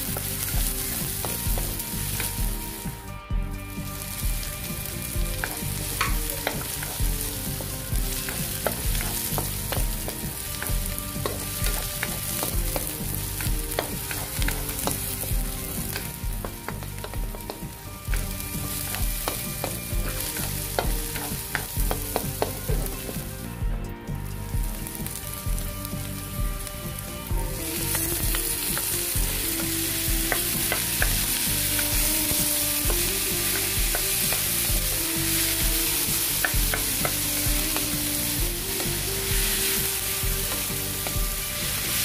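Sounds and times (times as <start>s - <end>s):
onion sizzling in hot oil: 0.0s - 42.0s
wooden spatula scraping pan: 3.8s - 42.0s.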